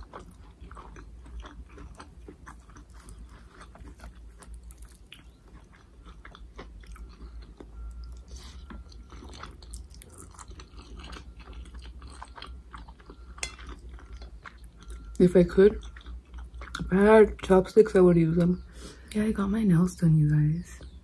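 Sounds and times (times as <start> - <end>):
person chewing noodles: 0.0 - 17.5
low steady hum: 0.0 - 21.0.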